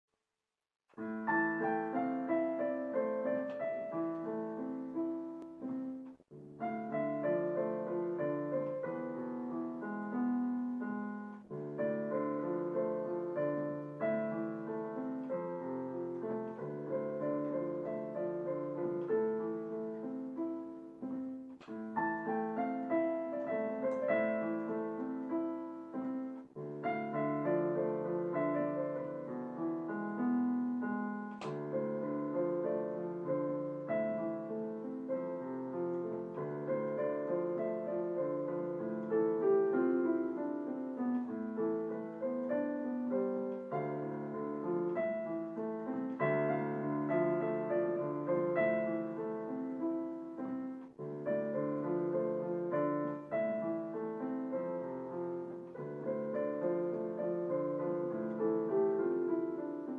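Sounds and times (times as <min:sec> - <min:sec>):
digital piano melody: 0:00.9 - 0:59.9.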